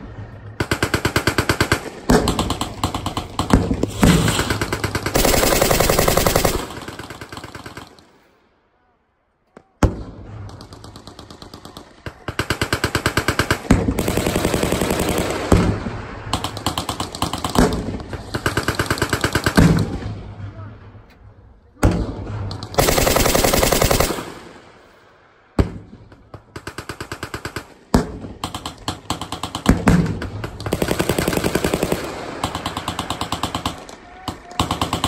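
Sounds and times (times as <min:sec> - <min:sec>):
machine guns firing bursts: 0:00.0 - 0:08.1, 0:10.4 - 0:20.1, 0:22.7 - 0:24.9, 0:25.6 - 0:35.0.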